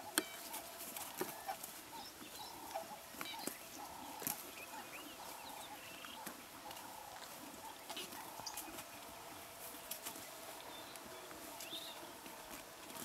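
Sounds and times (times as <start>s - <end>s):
repeating bush calls: 0.0s - 12.5s
animal chewing: 0.0s - 13.0s.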